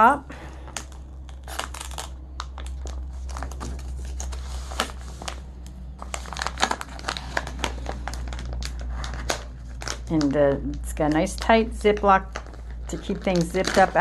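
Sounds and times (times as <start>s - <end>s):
plastic pouch crinkling: 0.6s - 14.0s.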